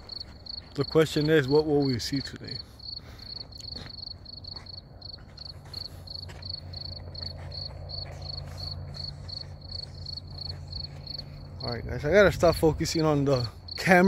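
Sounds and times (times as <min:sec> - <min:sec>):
cricket chirping: 0:00.0 - 0:11.6
low hum: 0:00.0 - 0:12.9.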